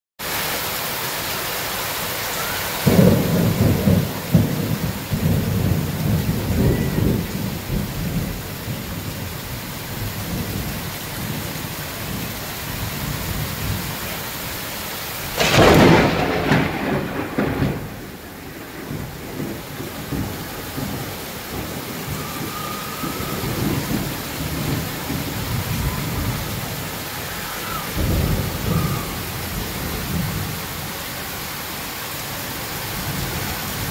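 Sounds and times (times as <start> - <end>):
heavy rain pouring: 0.2 - 33.9.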